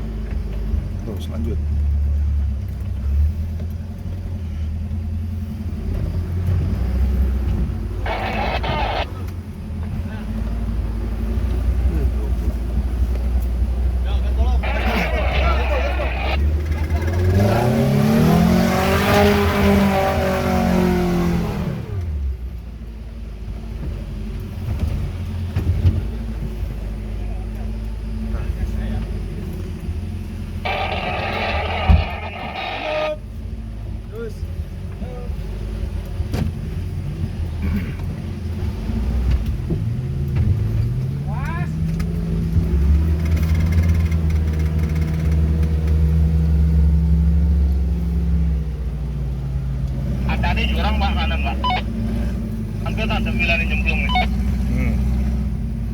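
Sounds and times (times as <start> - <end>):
off-road vehicle engine revving: 0.0 - 22.6, 24.4 - 55.9.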